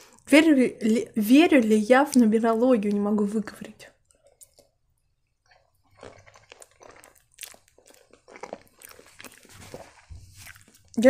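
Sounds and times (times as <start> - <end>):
faint chewing: 1.7 - 11.0.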